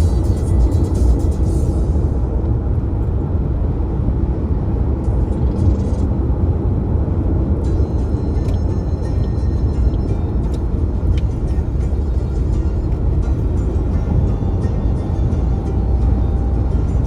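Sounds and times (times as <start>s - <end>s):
moving car rumble: 0.0s - 17.0s.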